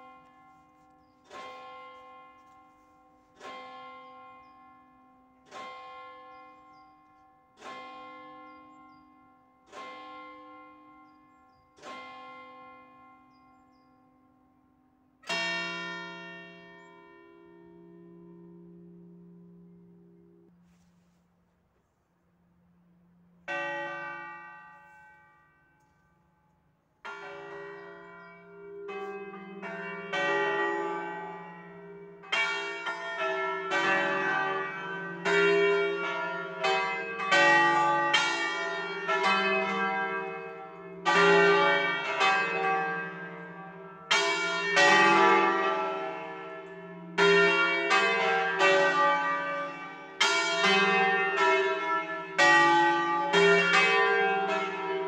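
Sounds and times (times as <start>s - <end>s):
church bells ringing: 0.0s - 21.1s, 22.6s - 55.0s.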